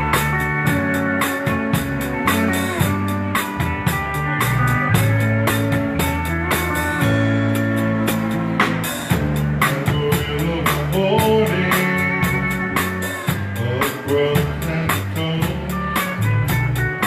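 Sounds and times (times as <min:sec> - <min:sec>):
dance band playing: 0:00.0 - 0:17.0
steady drum beat: 0:00.0 - 0:17.0.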